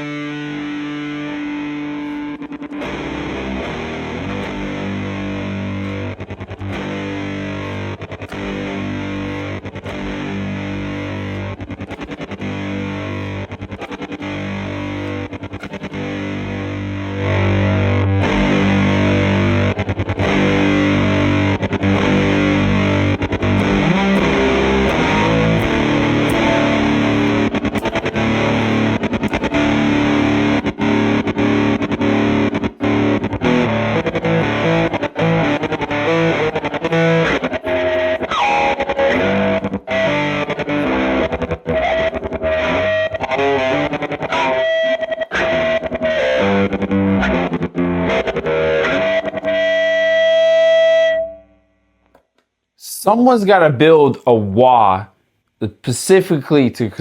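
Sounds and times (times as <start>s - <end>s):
fuzzy distorted electric guitar: 0.0s - 52.4s.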